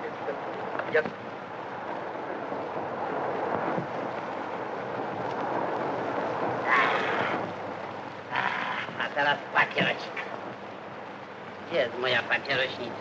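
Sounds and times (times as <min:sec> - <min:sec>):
film soundtrack hiss: 0:00.0 - 0:13.0.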